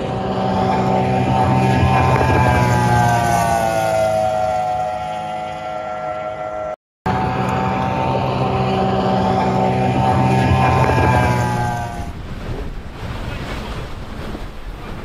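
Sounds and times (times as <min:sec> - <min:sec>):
outboard engine at high revs: 0:00.0 - 0:14.5
outboard engine passing: 0:00.0 - 0:15.0.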